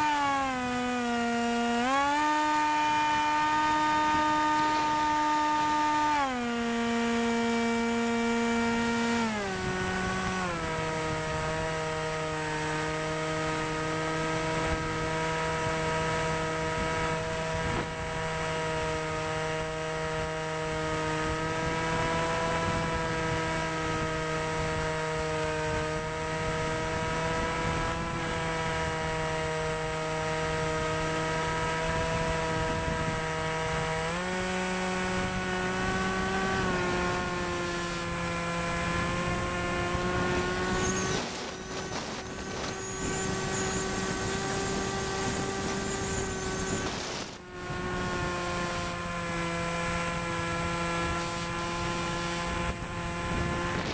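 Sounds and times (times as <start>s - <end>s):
model jet motor whine: 0.0s - 53.9s.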